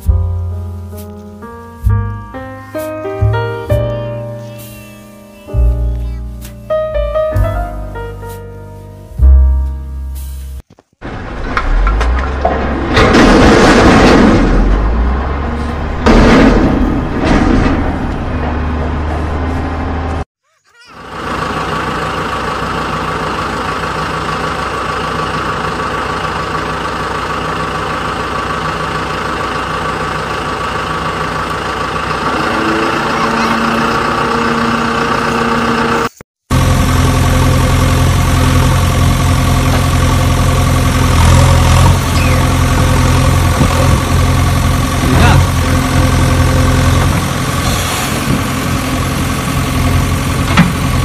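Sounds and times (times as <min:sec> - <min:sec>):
engine running: 0:00.0 - 0:20.2, 0:21.0 - 0:51.0.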